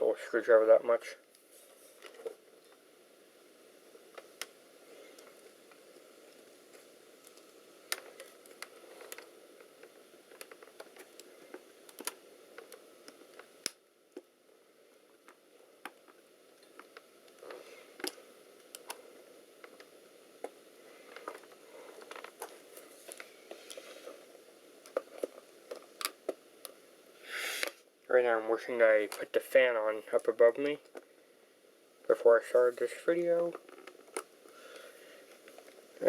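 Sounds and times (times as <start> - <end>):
faint hiss: 0.0 - 36.0.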